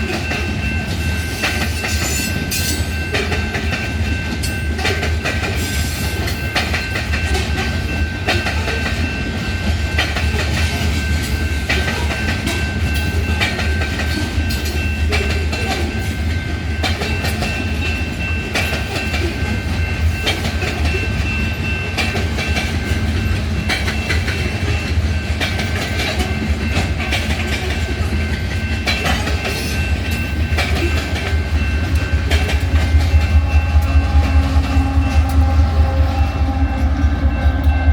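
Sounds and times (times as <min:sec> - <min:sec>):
wheels clicking over rail joints: 0:00.0 - 0:35.5
freight train rumbling past: 0:00.0 - 0:37.9.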